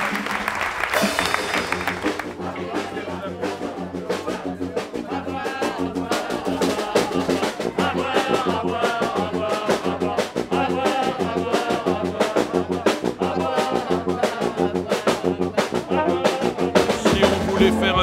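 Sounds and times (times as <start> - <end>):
brass band music: 0.0 - 18.0.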